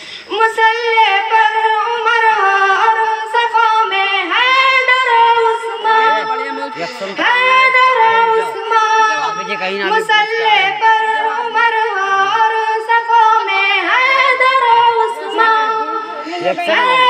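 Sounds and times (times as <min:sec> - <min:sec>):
high voice singing: 0:00.2 - 0:17.0.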